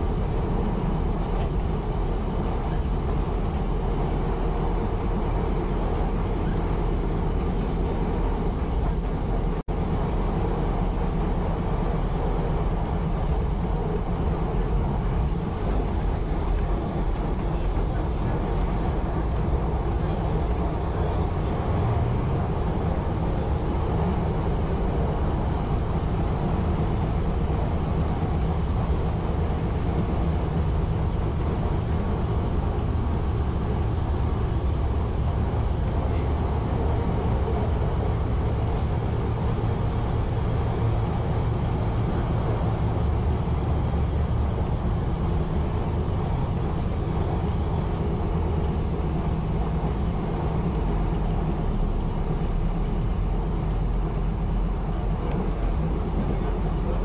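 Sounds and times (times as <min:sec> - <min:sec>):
railmotor engine drone: 0:00.0 - 0:57.0
wheel and track noise: 0:00.0 - 0:57.0.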